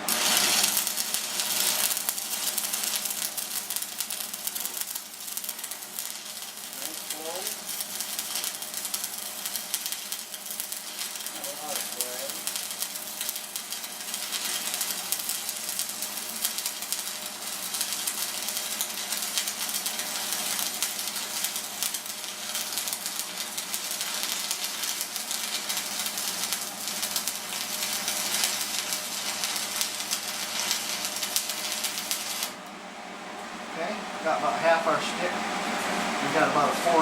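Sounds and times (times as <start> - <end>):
welding arc crackling sizzle: 0.0 - 32.8, 33.4 - 37.0.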